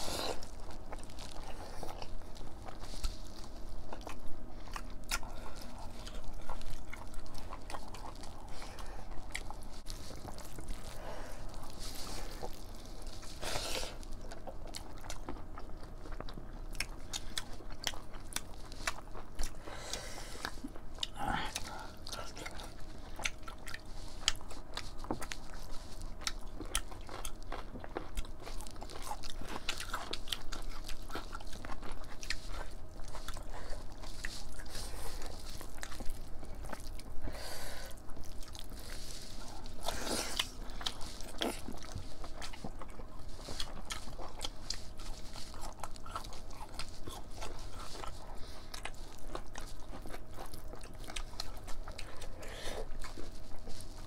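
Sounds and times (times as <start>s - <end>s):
wet chewing and smacking: 0.0s - 54.0s.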